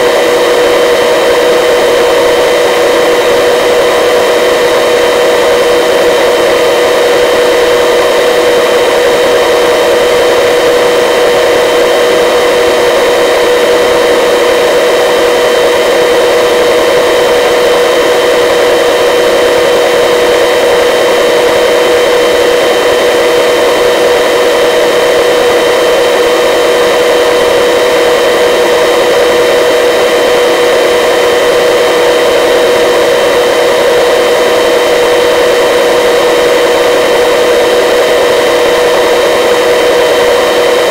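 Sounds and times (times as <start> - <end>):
helicopter cabin drone: 0.0 - 40.9.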